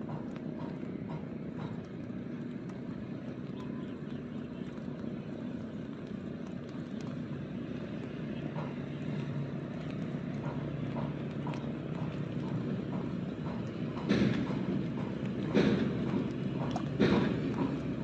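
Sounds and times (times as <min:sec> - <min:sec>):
motor engine droning: 0:00.0 - 0:18.0.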